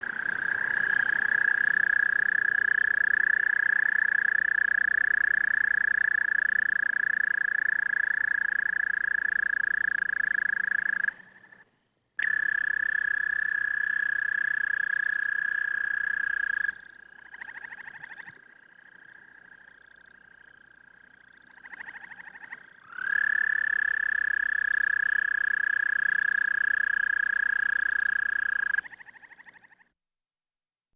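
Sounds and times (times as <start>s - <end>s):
toads trilling: 0.0s - 11.6s, 12.2s - 29.9s.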